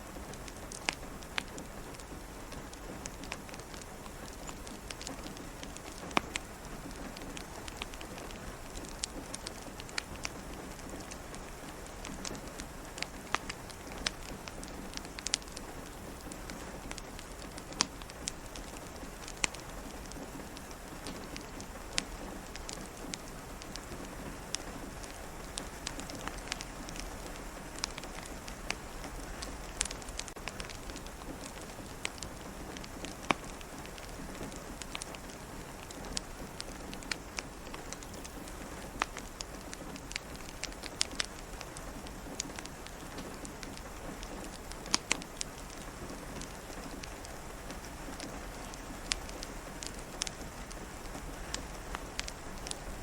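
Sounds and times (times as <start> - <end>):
rain pattering: 0.0 - 53.0
wood fire crackling and popping: 0.0 - 53.0.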